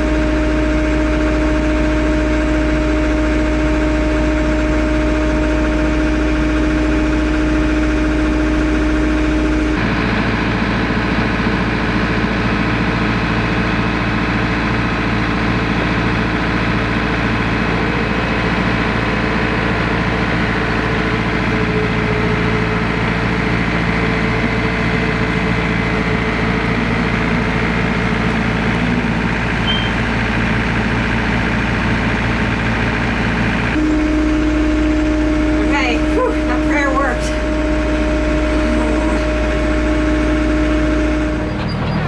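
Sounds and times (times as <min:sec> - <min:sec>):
diesel tractor engines running: 0:00.0 - 0:42.0.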